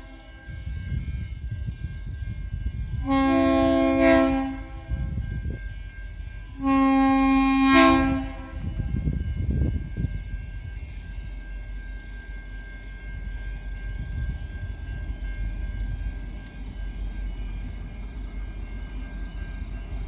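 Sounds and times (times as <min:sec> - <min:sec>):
diesel locomotive rumble: 0:00.0 - 0:20.0.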